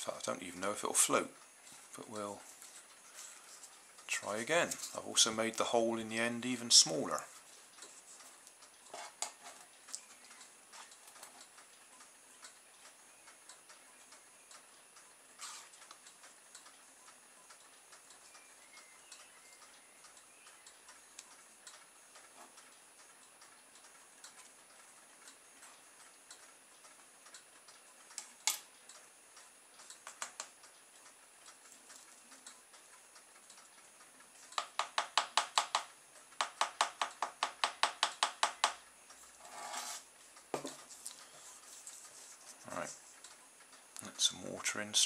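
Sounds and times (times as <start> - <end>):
faint regular ticking: 0.0 - 45.0.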